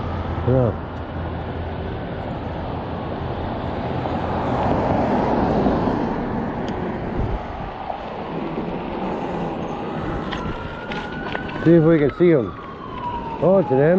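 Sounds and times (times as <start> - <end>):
traffic rumble: 0.0 - 13.9.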